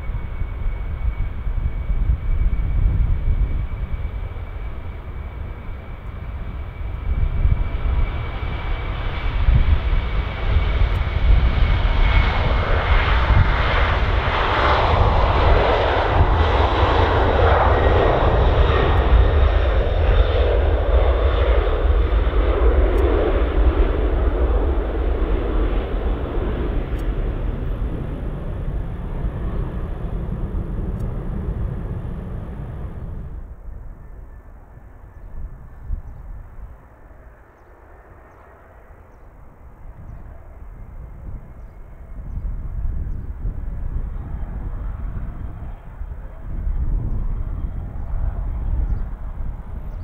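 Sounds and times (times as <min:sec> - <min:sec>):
jet engines at takeoff power: 0:00.0 - 0:50.0.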